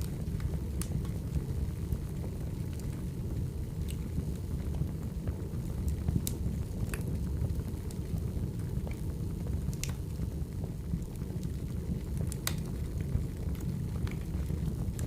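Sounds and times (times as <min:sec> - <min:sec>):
fire crackles and pops: 0:00.0 - 0:15.0
wood fire rumbling: 0:00.0 - 0:15.0.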